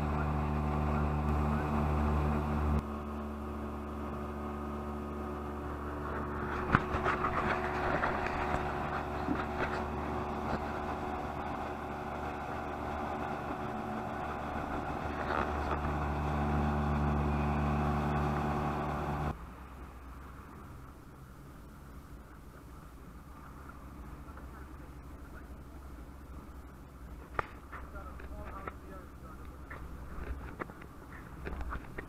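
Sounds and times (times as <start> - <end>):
speedboat engine running: 0.0 - 27.2.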